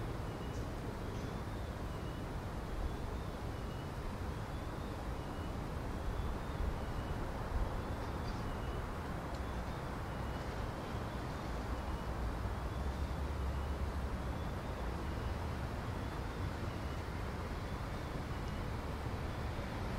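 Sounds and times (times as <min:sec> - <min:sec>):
low urban background rumble: 0:00.0 - 0:19.9.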